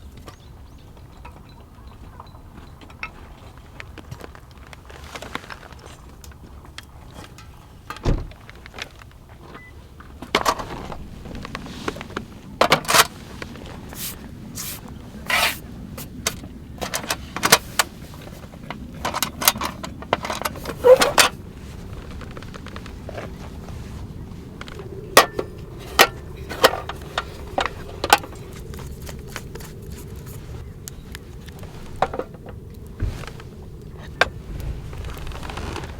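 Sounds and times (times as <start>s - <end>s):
camping gear clinking and scraping: 4.1s - 35.9s.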